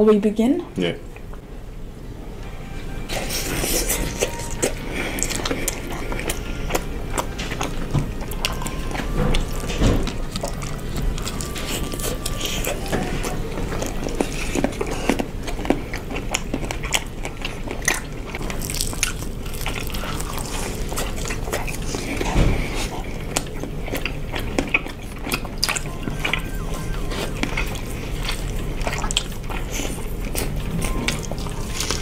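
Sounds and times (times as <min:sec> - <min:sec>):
crunching and chewing fried chicken: 0:03.1 - 0:32.0.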